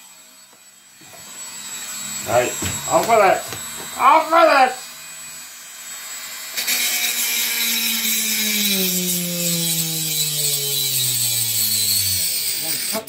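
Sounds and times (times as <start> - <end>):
rotary tool grinding metal: 0.0 - 13.0.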